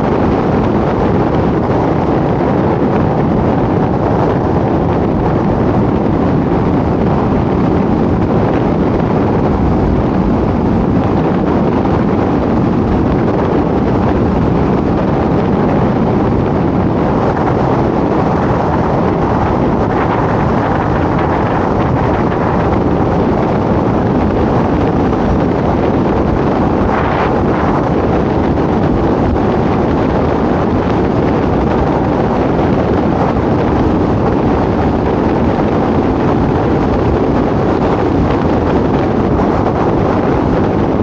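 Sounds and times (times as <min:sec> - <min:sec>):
car wind and road noise: 0:00.0 - 0:41.0.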